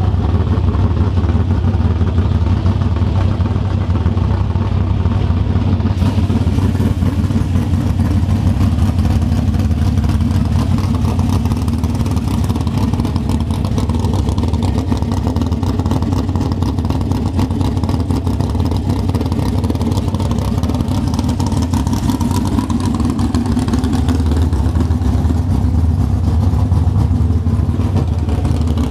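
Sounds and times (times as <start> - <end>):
car engine running steadily: 0.0 - 28.9.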